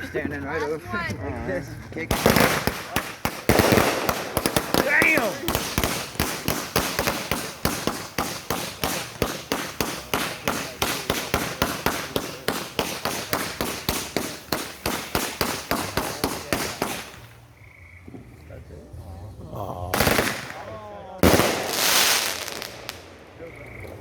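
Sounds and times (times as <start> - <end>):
firework sharp cracks: 2.1 - 17.5, 19.9 - 24.0.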